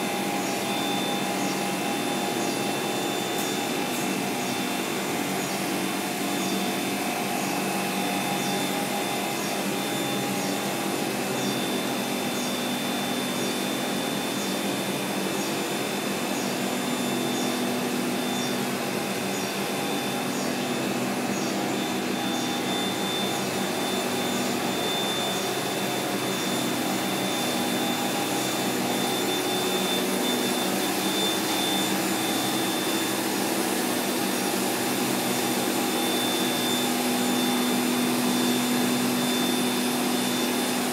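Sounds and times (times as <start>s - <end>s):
drone of fans and machinery: 0.0s - 40.9s
steady hums: 0.0s - 40.9s.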